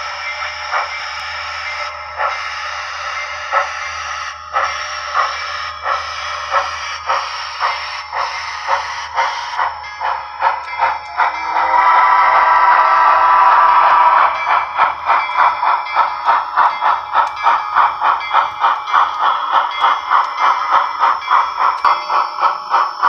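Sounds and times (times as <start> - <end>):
steam locomotive exhaust chuffs: 0.0 - 23.0.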